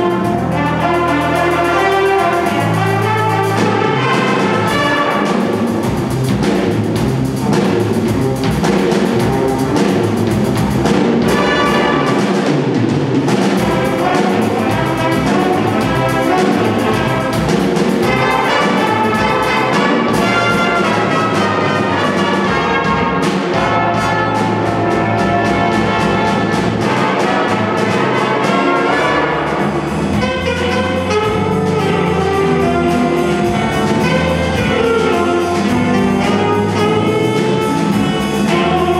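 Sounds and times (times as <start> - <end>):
drum kit beat: 0.0 - 38.9
jazz big band playing: 0.0 - 38.9.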